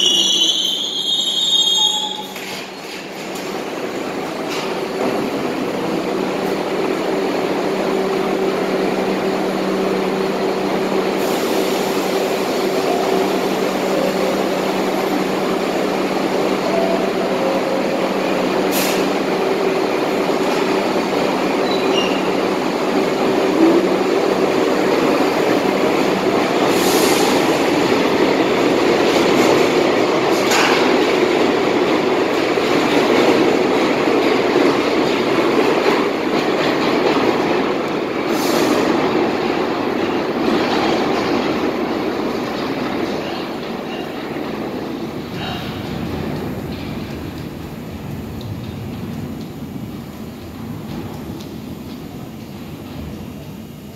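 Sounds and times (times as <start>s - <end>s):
subway train running: 0.0s - 53.9s.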